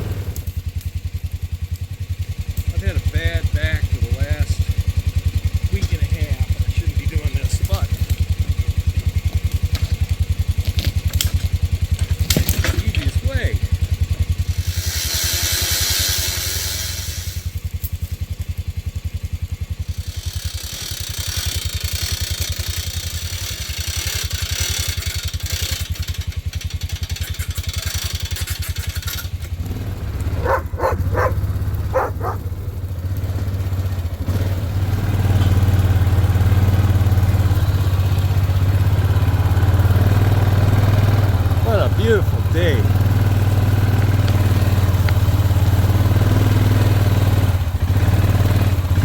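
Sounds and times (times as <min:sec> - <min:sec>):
vehicle engine running: 0:00.0 - 0:49.0.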